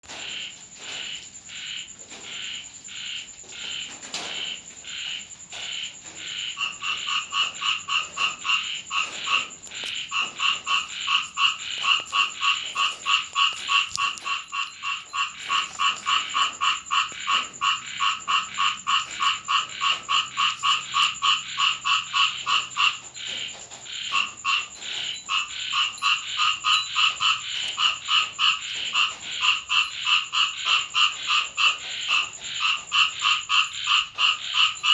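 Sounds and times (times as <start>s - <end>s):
frogs croaking: 0.0s - 34.9s
lower-pitched croaking: 0.3s - 34.9s.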